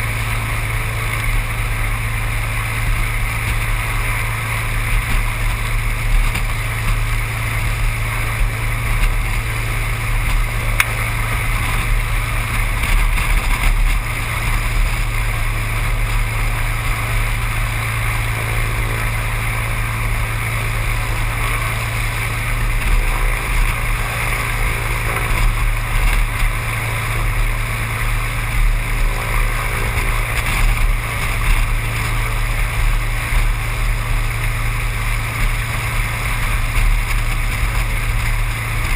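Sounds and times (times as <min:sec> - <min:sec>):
propeller engine droning: 0:00.0 - 0:38.9.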